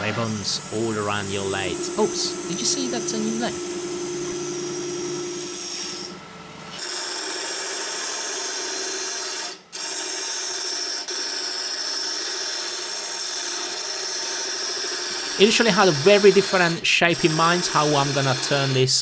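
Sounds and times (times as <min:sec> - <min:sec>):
lathe motor hum: 0:00.0 - 0:18.8
lathe scraper cutting wood: 0:00.0 - 0:19.0.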